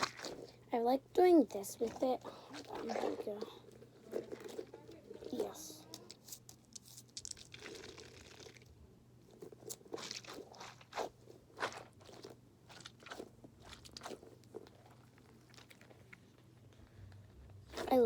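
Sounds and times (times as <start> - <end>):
water beads squishing in stress ball: 0.0 - 0.6, 1.2 - 8.8, 9.4 - 16.4.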